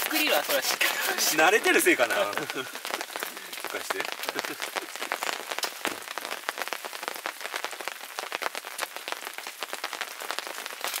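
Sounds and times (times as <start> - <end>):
rain drops tapping on a surface: 0.0 - 11.0.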